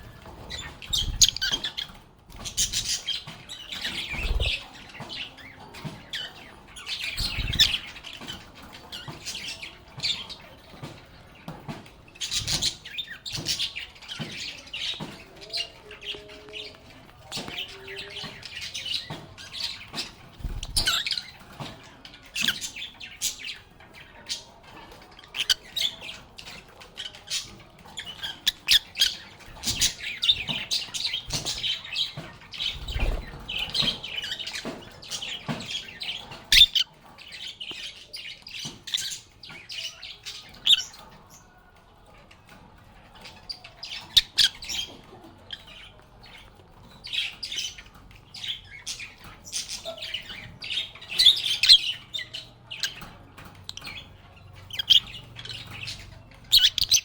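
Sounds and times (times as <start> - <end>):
lovebirds chirping and squawking: 0.0 - 57.0.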